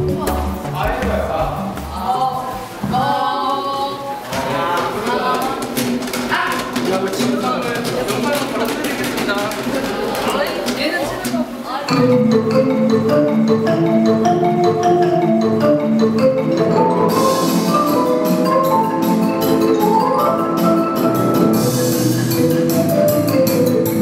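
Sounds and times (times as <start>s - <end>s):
marimba-like mallet percussion music: 0.0s - 2.7s, 5.0s - 24.0s.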